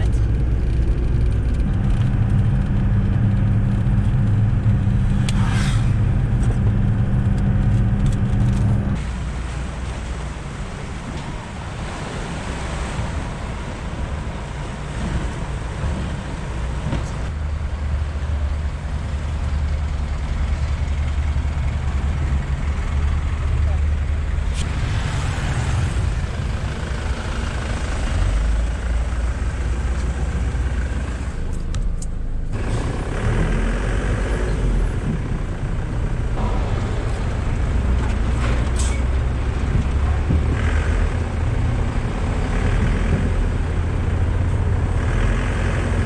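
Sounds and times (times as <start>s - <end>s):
broad outdoor noise: 0.0s - 46.0s
low engine hum: 0.0s - 46.0s
van engine drone from inside: 0.0s - 46.0s.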